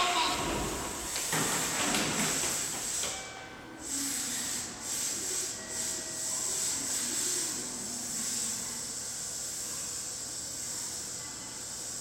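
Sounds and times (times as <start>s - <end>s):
steady hissing from train: 0.0s - 12.0s.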